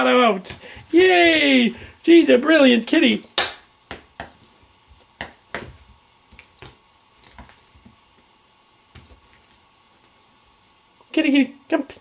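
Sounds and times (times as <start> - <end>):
metallic toy jingling: 0.0 - 12.0.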